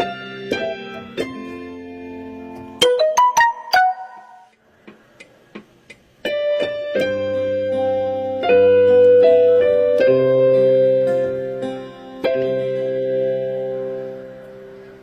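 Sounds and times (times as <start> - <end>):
sustained piano chords: 0.0 - 4.6, 6.2 - 15.0
keyboard notes: 0.0 - 15.0.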